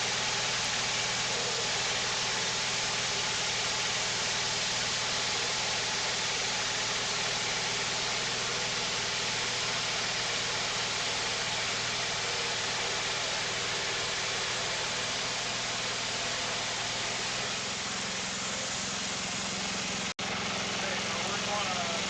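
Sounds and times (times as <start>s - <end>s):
sawmill engine low hum: 0.0s - 22.0s
sawmill hiss: 0.0s - 22.0s.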